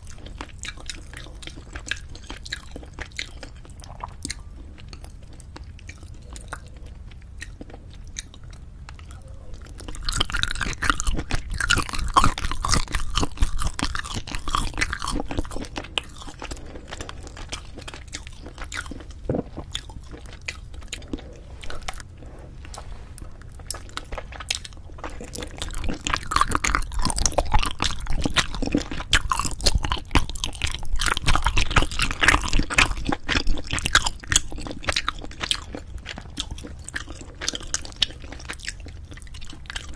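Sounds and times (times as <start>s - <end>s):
close chewing with wet mouth sounds: 0.0s - 39.9s.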